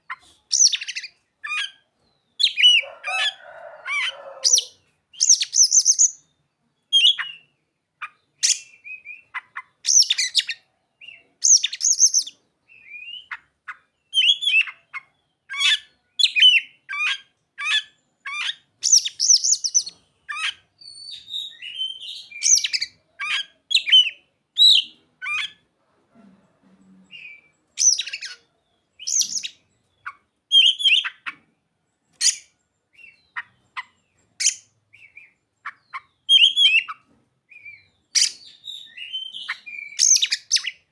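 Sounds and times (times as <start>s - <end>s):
magpie-robin singing: 0.0s - 25.6s, 27.1s - 31.5s, 32.1s - 40.9s.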